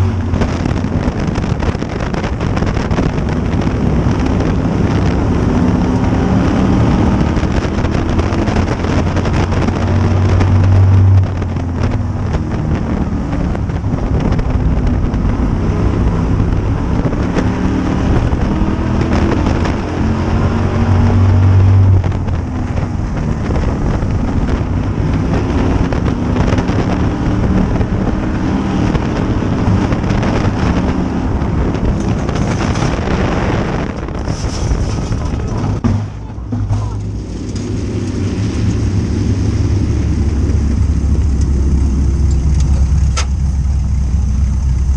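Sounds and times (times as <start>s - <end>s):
race car engine roaring: 0.0s - 44.9s
wind buffeting microphone: 0.0s - 44.9s.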